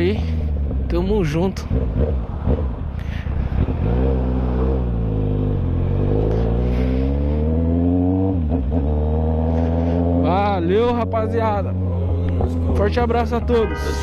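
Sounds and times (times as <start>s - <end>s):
motorcycle engine accelerating: 1.6s - 2.8s, 3.5s - 13.6s.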